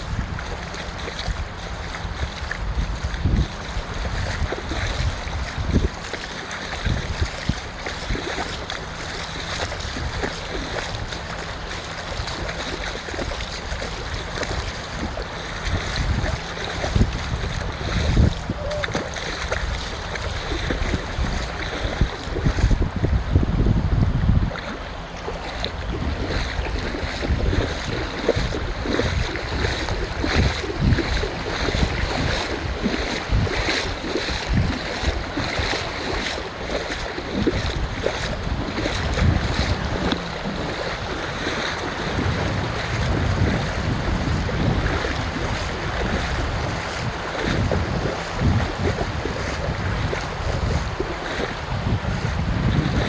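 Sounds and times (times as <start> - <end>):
surf washing on a beach: 0.0 - 53.0
wind buffeting microphone: 0.0 - 53.0.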